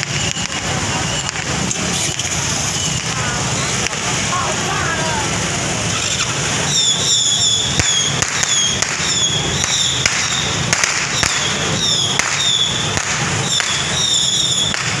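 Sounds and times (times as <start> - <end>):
crowd and street background: 0.0 - 15.0
firecrackers cracking: 0.0 - 15.0.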